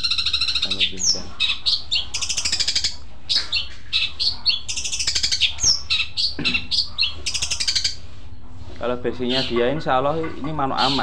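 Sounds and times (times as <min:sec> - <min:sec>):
bird rattling song: 0:00.0 - 0:08.1, 0:09.1 - 0:11.0.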